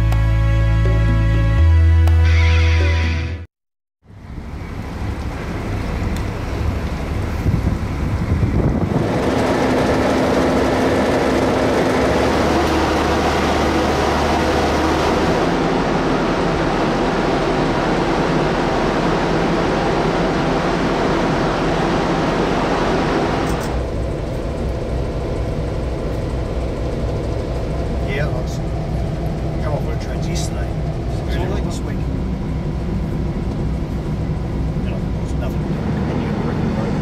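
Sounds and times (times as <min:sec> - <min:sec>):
diesel locomotive engine running: 0:00.0 - 0:37.0
muffled engine running noise: 0:04.0 - 0:37.0.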